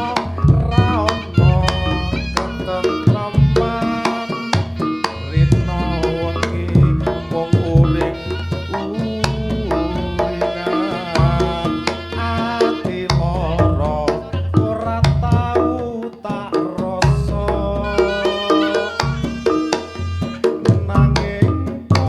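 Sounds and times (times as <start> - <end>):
ornamented gamelan melody: 0.0 - 13.5, 17.8 - 22.0
hand-drum strokes: 0.0 - 22.0.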